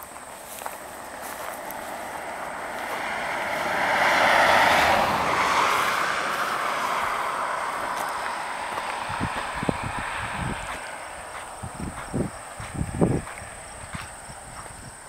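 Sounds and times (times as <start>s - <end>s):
car passing by: 0.8s - 14.3s.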